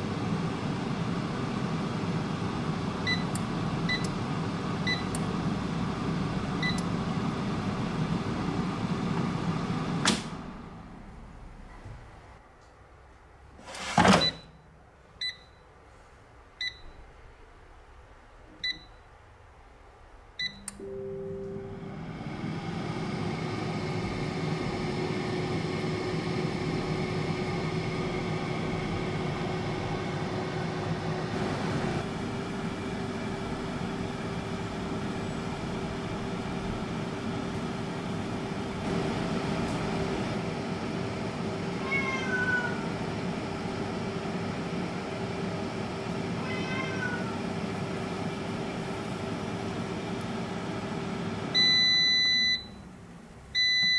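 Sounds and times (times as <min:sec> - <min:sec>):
air fryer fan whirring: 0:00.0 - 0:11.6, 0:20.4 - 0:53.9.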